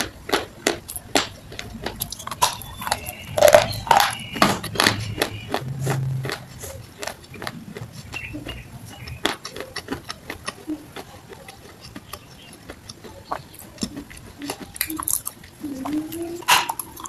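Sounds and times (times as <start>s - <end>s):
chewing crunching: 0.0s - 17.0s.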